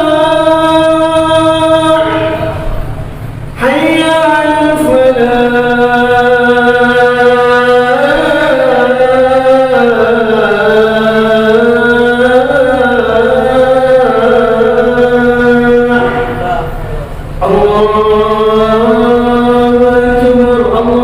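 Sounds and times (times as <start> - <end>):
muezzin chanting: 0.0 - 21.0.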